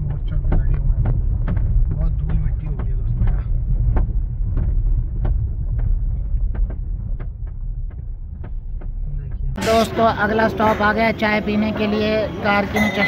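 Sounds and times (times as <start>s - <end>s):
car road noise rumble: 0.0s - 12.7s.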